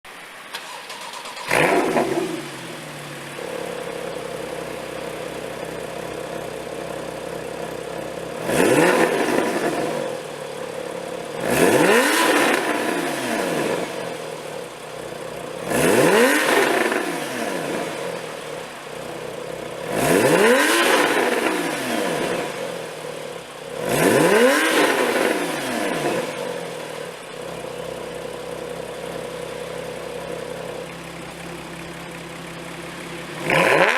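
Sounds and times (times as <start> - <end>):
car engine starting and idling: 0.1 - 33.9
car engine revving: 0.2 - 33.9.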